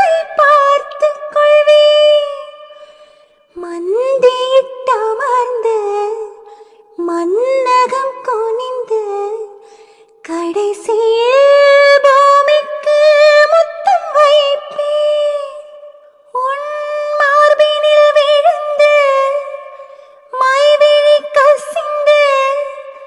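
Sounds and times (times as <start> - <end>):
high voice singing with vibrato: 0.0 - 9.6, 10.2 - 23.0.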